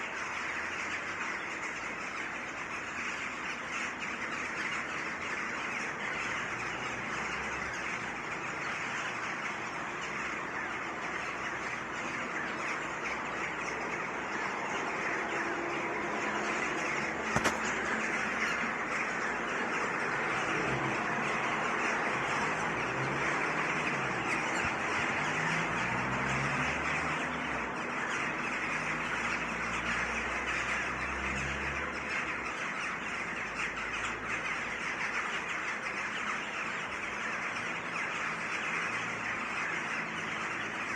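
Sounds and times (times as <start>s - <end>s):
birds chattering and squawking: 0.0s - 40.9s.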